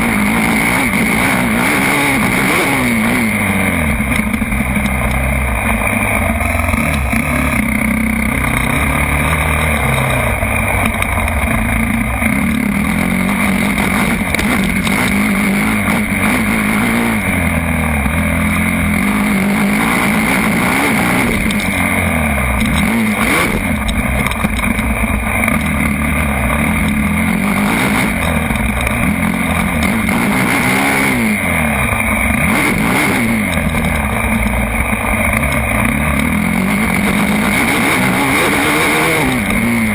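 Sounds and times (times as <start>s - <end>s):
constant loud noise: 0.0s - 39.9s
dirt bike engines revving: 0.0s - 39.9s.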